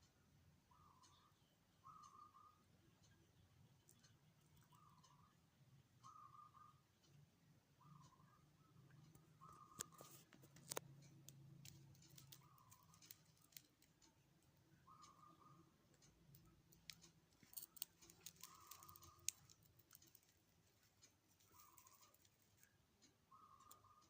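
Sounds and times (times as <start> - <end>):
faint clicks: 3.0 - 5.4, 6.0 - 24.0.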